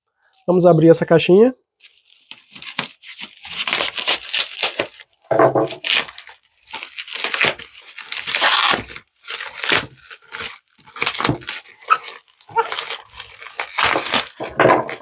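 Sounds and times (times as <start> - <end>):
bubble wrap crinkling: 1.7 - 15.0.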